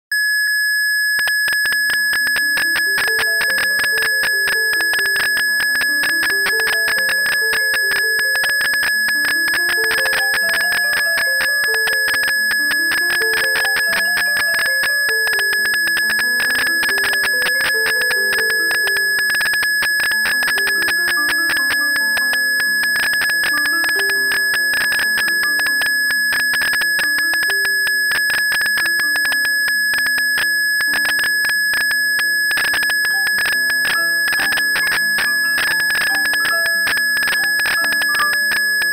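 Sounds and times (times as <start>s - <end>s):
steady high-pitched tone: 0.2s - 38.9s.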